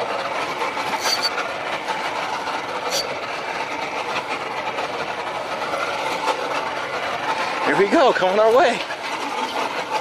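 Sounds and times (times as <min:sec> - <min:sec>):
rushing noise on boat: 0:00.0 - 0:10.0.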